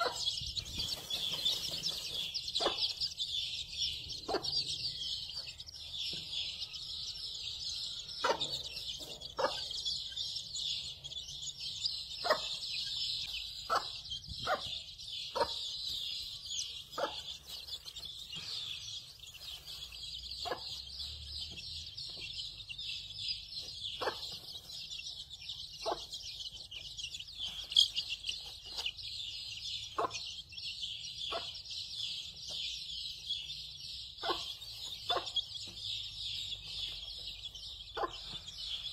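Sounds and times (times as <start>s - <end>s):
hen clucking: 0.0s - 6.7s, 7.8s - 22.6s, 23.5s - 30.5s, 31.2s - 32.6s, 34.2s - 38.9s
chicks peeping: 0.0s - 38.9s.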